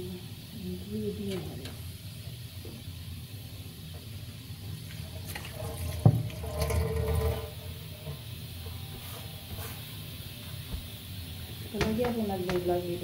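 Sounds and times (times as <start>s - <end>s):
water running from kitchen tap: 0.0s - 13.0s.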